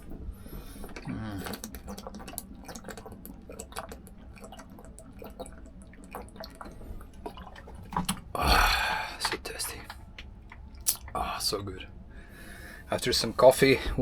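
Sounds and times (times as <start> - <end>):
gulps of swallowing: 0.0 - 11.3.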